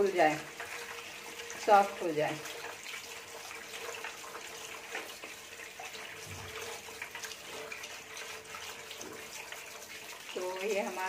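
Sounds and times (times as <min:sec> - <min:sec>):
tap water splashing into strainer: 0:00.0 - 0:11.0.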